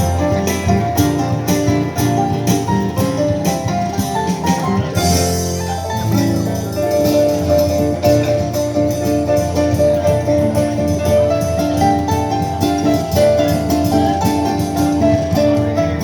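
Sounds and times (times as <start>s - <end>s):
harp playing: 0.0s - 16.0s.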